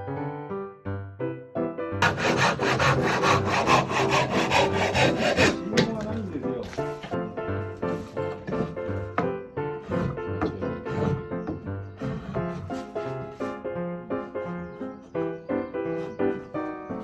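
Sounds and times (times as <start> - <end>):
piano music: 0.0 - 17.0
hand saw cutting wood: 2.0 - 17.0.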